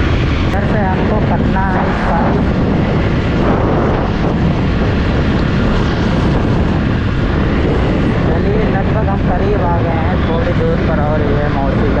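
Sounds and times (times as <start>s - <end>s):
motorcycle engine roaring: 0.0s - 12.0s
wind rushing over microphone: 0.0s - 12.0s.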